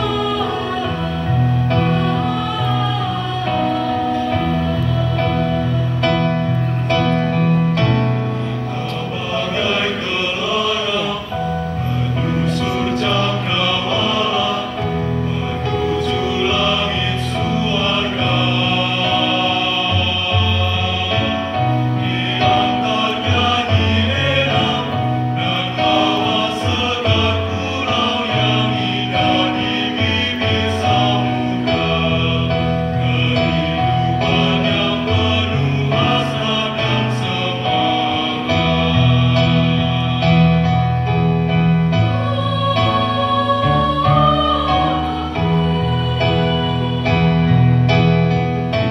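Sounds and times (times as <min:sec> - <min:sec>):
mixed choir singing: 0:00.0 - 0:48.9.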